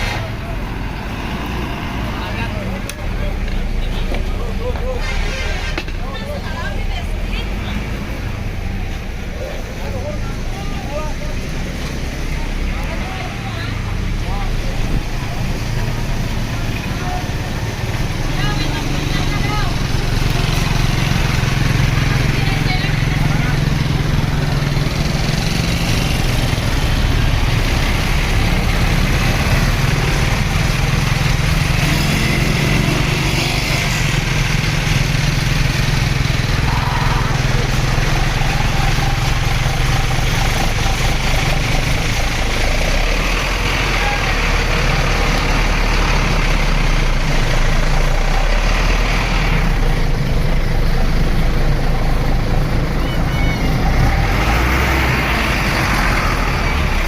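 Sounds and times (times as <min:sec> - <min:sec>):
bus engine drone: 0:00.0 - 0:57.0
road and traffic noise: 0:00.0 - 0:57.0.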